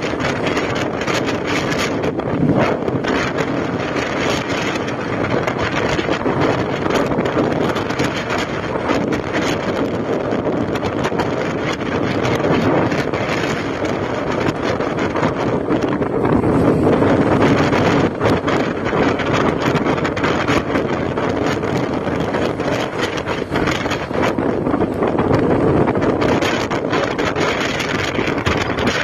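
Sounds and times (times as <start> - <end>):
road noise: 0.0 - 29.0
wind buffeting microphone: 0.0 - 29.0.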